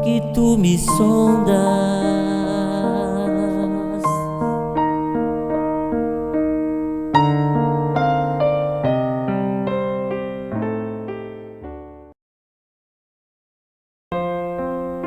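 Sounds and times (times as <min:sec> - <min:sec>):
slow gospel piano: 0:00.0 - 0:12.2.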